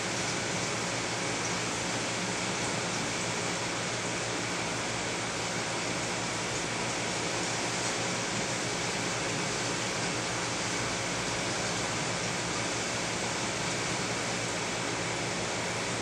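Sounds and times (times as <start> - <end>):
aquarium water circulation hiss: 0.0 - 16.0.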